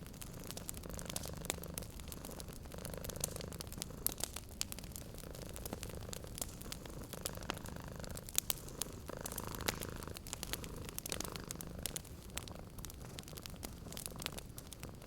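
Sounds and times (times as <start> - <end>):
cat purring: 0.0 - 15.0
wood fire crackling and popping: 0.0 - 15.0.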